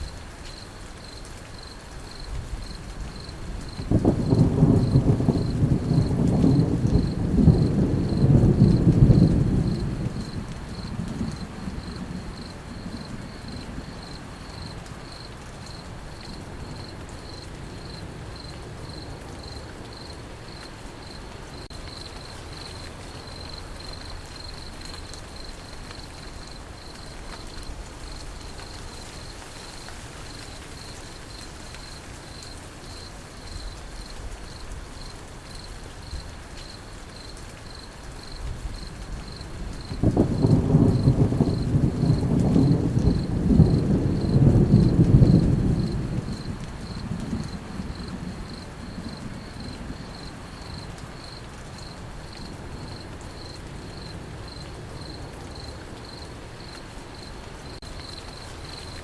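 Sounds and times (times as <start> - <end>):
crickets chirping: 0.0 - 59.0
rain pattering: 0.0 - 59.0.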